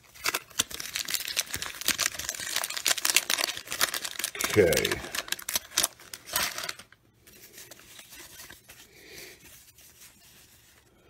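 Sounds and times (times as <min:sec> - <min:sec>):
cards rustling: 0:00.0 - 0:11.0
paper wrapper tearing and crinkling: 0:00.0 - 0:11.0.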